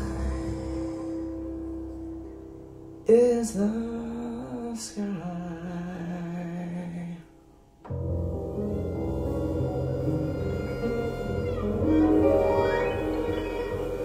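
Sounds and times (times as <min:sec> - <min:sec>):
jazz vocal music over speakers: 0:00.0 - 0:02.0, 0:03.0 - 0:14.0.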